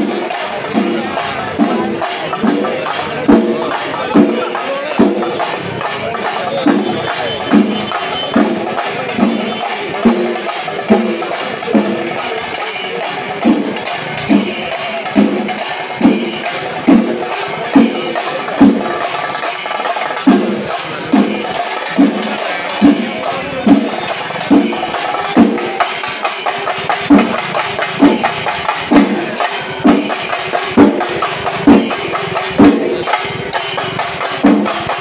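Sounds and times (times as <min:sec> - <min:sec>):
cymbals clashing: 0:00.0 - 0:35.0
drums playing a fast roll: 0:00.0 - 0:35.0
heavy drum strokes: 0:00.0 - 0:35.0.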